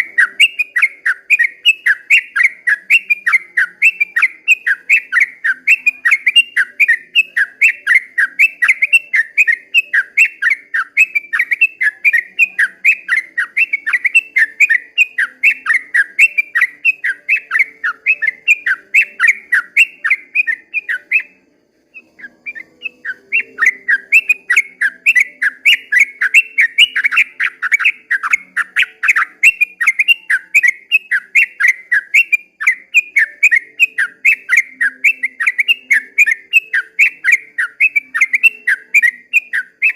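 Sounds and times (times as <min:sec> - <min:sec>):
bulbul singing bubbly whistles: 0:00.0 - 0:39.9.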